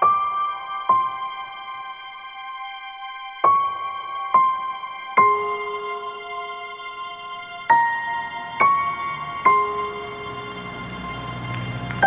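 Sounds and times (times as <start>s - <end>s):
slow piano notes ringing: 0.0s - 12.0s.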